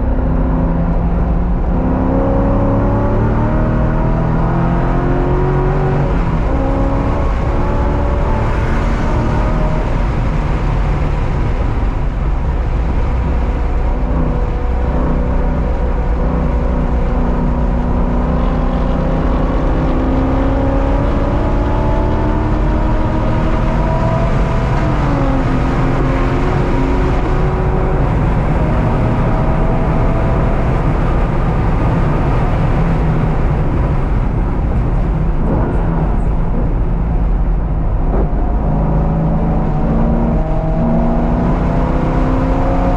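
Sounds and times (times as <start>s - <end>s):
car engine revving under load: 0.0s - 42.9s
road and wind noise: 0.0s - 42.9s.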